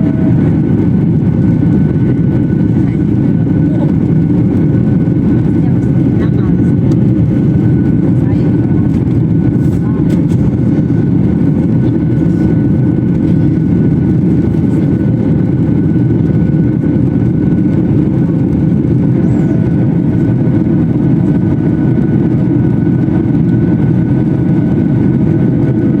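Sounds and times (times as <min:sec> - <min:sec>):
faint steady whines: 0:00.0 - 0:26.0
jet engines rumbling: 0:00.0 - 0:26.0.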